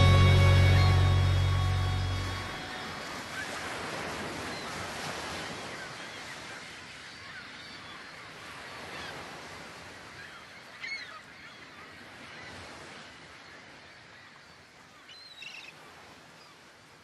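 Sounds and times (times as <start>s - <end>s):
sea: 0.0s - 17.0s
wind: 0.0s - 17.0s.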